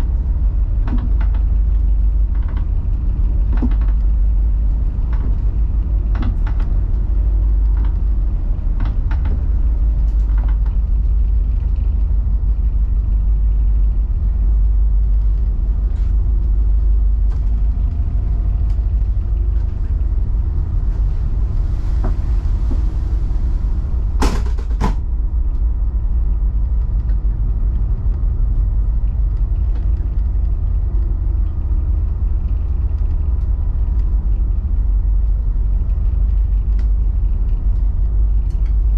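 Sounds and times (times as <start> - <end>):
boat engines rumbling: 0.0 - 38.9.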